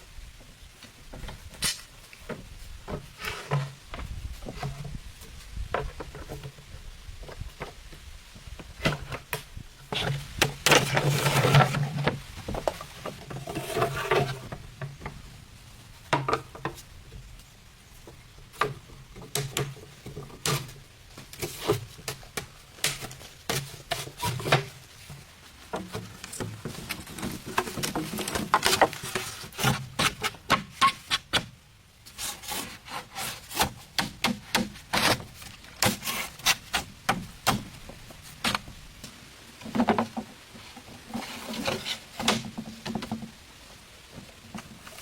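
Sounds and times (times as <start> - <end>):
rustling and scraping: 0.0 - 45.0.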